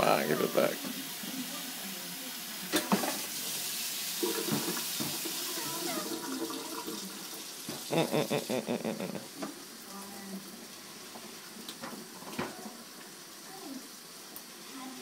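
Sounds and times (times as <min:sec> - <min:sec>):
tap water running into pan: 0:00.0 - 0:15.0.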